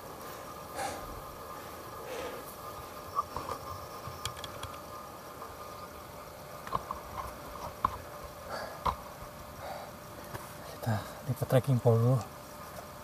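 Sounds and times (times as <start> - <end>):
faint insect hum: 0.0 - 13.0.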